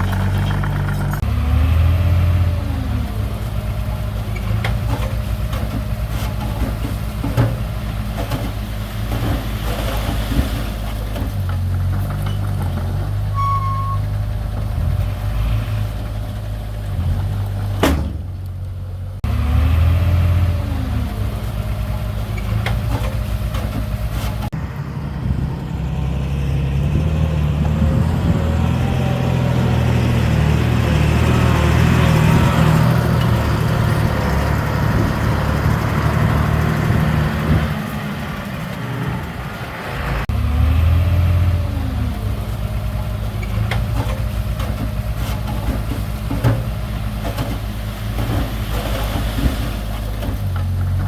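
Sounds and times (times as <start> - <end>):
heavy machinery diesel engines: 0.0 - 51.0.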